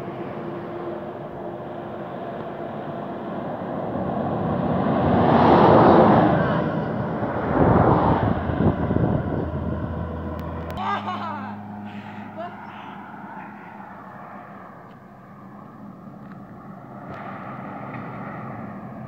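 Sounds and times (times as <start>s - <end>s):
car passing: 0.0s - 19.0s
heavy truck passing: 0.0s - 19.0s.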